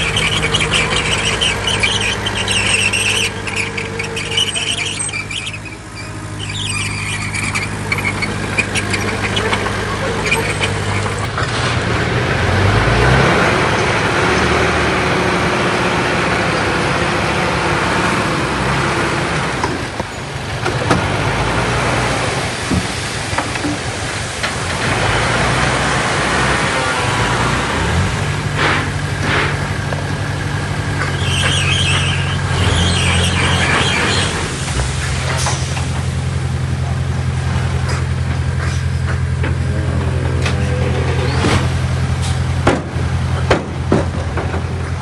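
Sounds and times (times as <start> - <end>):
heavy diesel machinery working: 0.0 - 45.0.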